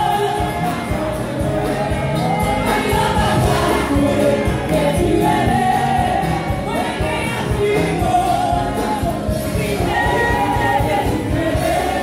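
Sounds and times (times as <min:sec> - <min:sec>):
gospel singers singing together: 0:00.0 - 0:12.0
instrumental accompaniment with beat: 0:00.0 - 0:12.0.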